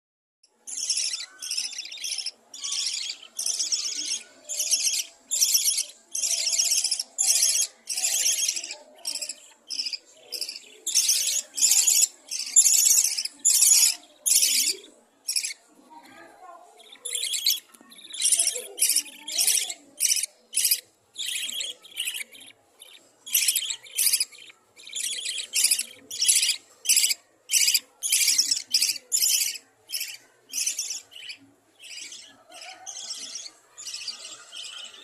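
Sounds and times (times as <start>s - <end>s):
chicks giving raspy buzzing calls: 0.6s - 15.7s, 16.5s - 35.0s.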